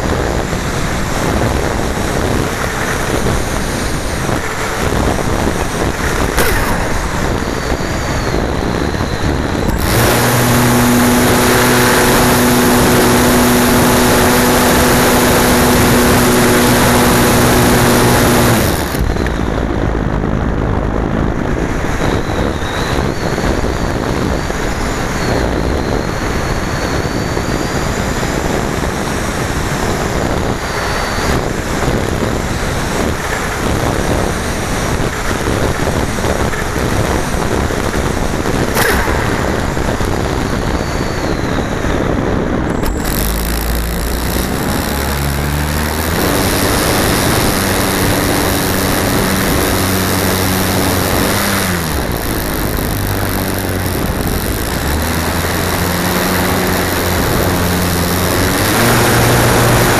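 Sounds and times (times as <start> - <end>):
air rushing: 0.0 - 24.7, 30.1 - 59.9
propeller motor droning: 0.0 - 59.9.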